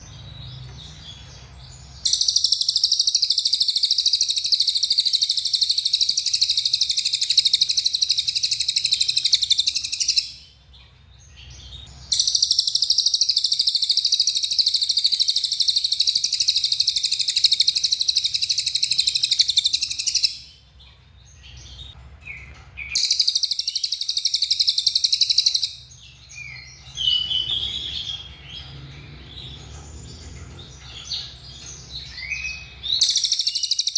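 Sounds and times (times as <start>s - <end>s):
songbird high-pitched rapid trills: 0.0s - 33.9s.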